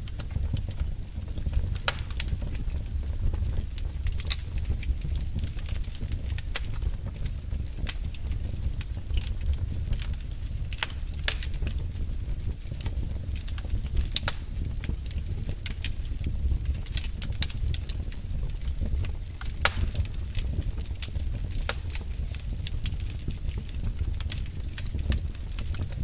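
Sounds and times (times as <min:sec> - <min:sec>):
fire low rumble: 0:00.0 - 0:26.0
wood fire crackling: 0:00.0 - 0:26.0.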